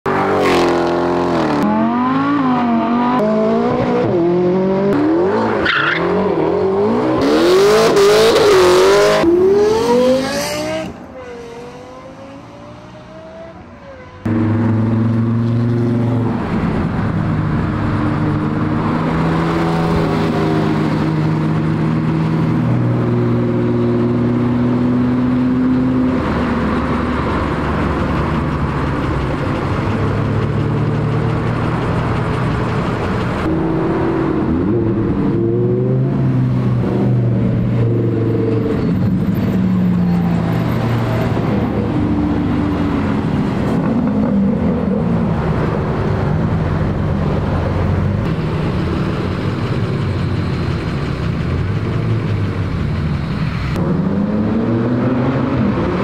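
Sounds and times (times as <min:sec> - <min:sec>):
cars revving and accelerating: 0:00.1 - 0:56.0.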